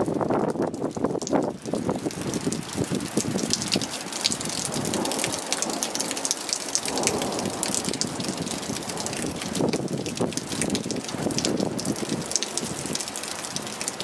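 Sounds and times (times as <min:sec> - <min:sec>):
heavy rain hissing on asphalt: 0:00.0 - 0:14.0
raindrop splashes: 0:00.0 - 0:14.0.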